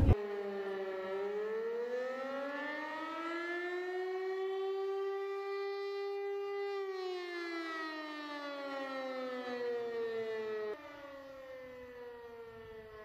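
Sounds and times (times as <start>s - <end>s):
air-raid siren wailing: 0.0s - 13.0s.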